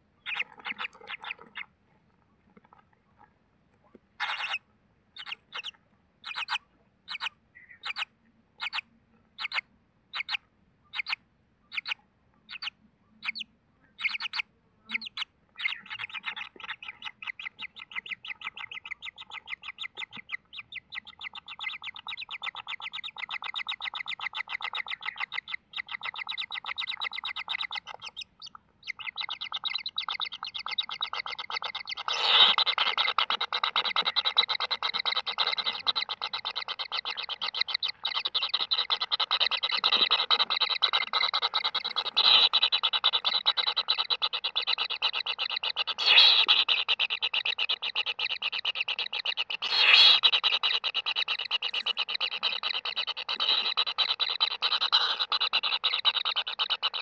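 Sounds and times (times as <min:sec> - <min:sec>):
kingfisher chicks calling: 0:00.2 - 0:01.7, 0:04.2 - 0:04.6, 0:05.2 - 0:57.0.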